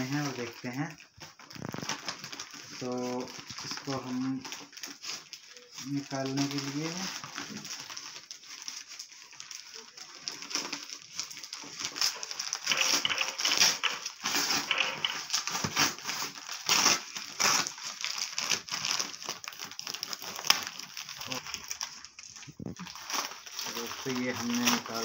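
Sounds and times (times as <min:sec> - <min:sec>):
plastic bag tearing and crinkling: 0:00.0 - 0:25.0.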